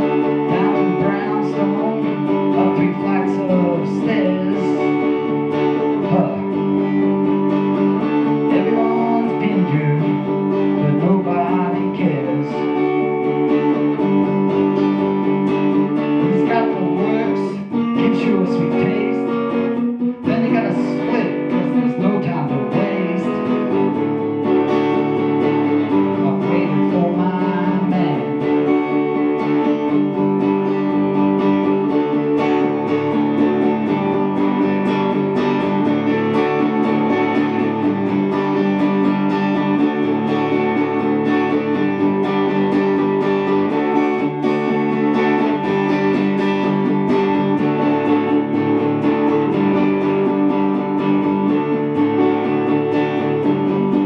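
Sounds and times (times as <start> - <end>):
electric guitar strumming chords: 0.0 - 54.0.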